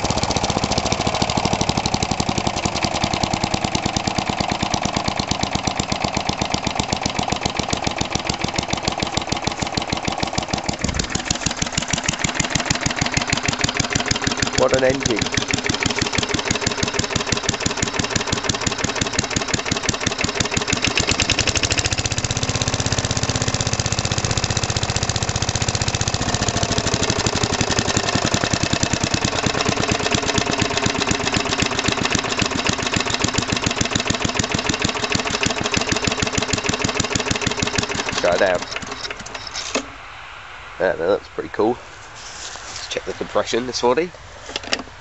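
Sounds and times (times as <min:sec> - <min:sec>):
lawn mower engine running: 0:00.0 - 0:40.1, 0:41.6 - 0:45.0.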